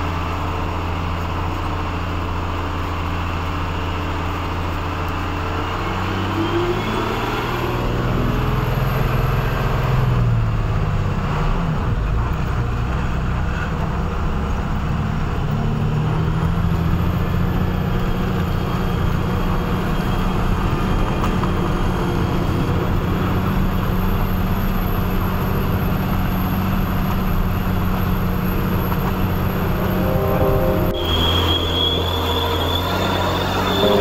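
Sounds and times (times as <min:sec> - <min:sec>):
truck engine running under load: 0:00.0 - 0:30.0
road noise: 0:00.0 - 0:34.0.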